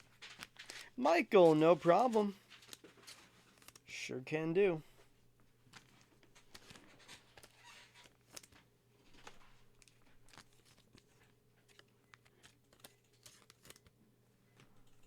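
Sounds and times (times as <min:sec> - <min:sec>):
trading cards and wrapping crinkling: 0:00.0 - 0:15.0.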